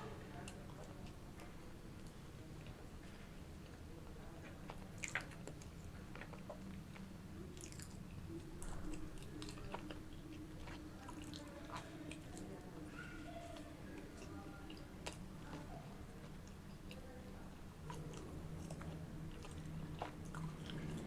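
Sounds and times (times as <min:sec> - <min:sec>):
chewing pizza: 0:00.0 - 0:21.0
low steady hum: 0:00.0 - 0:21.0.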